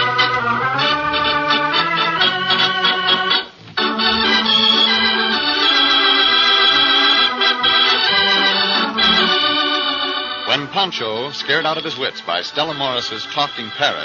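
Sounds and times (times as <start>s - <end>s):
organ chords: 0.0s - 14.0s.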